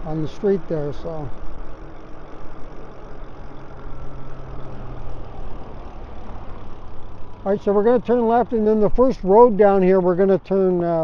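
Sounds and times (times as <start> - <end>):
steady low hum: 0.0 - 10.9
bike road noise: 0.0 - 11.0.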